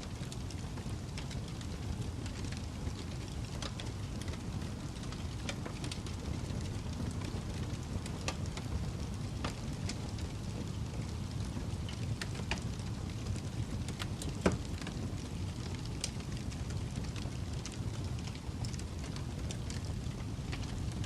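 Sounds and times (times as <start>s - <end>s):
fire crackling: 0.0s - 21.0s
low fire rumble: 0.0s - 21.0s.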